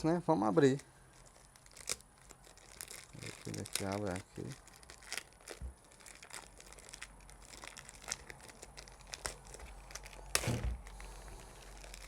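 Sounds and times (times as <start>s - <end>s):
packaging wrap crinkling: 0.4s - 12.0s.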